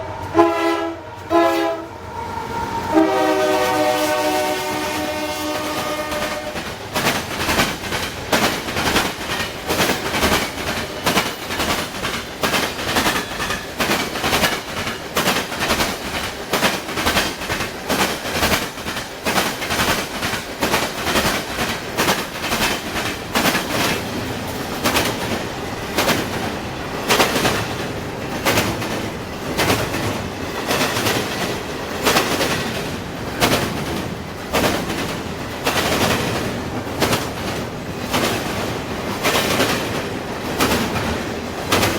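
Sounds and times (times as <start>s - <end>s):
train wheels clacking over crossing: 0.0s - 41.9s.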